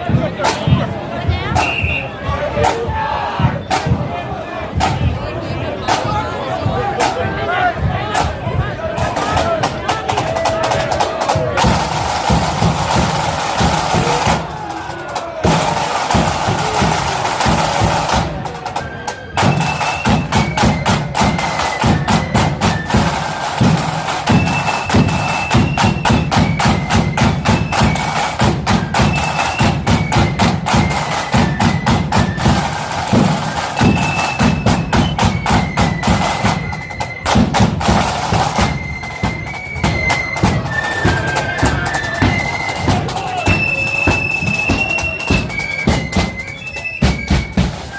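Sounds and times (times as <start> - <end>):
snare and bass drums marching: 0.0 - 47.9
flutes playing melody: 0.6 - 47.9.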